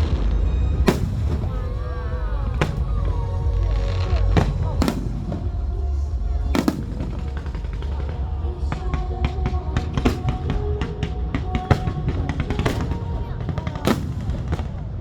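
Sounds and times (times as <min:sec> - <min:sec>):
fireworks banging: 0:00.0 - 0:15.0
low rumble: 0:00.0 - 0:15.0
music: 0:00.0 - 0:15.0.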